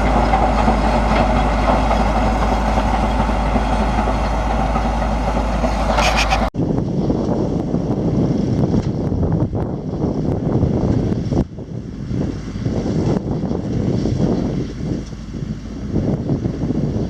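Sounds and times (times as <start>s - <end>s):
tractor and baler running: 0.0s - 17.0s.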